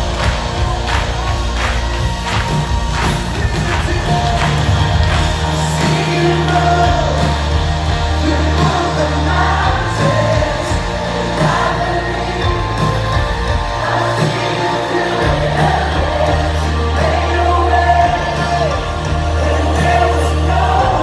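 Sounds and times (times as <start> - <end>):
low bass notes: 0.0 - 21.0
person singing: 2.9 - 21.0.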